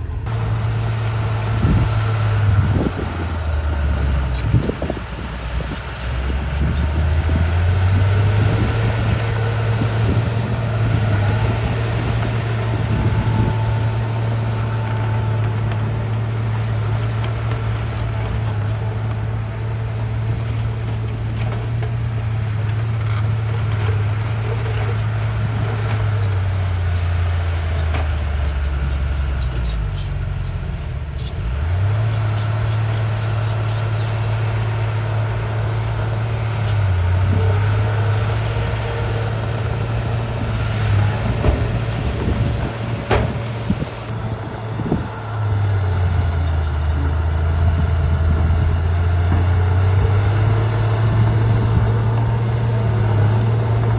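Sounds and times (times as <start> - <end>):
bulldozer diesel engine running hard: 0.0 - 53.9.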